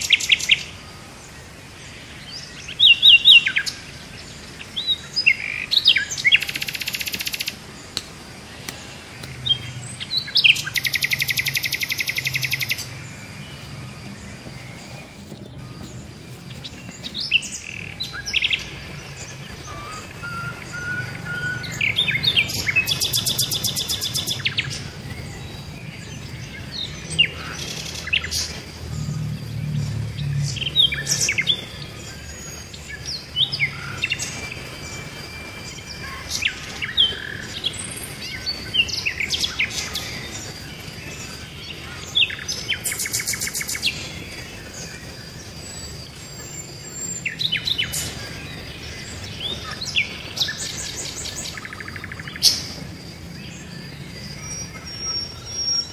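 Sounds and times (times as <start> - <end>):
birds chirping: 0.0 - 55.9
fast rattling bird trill: 2.2 - 7.7, 9.4 - 55.9.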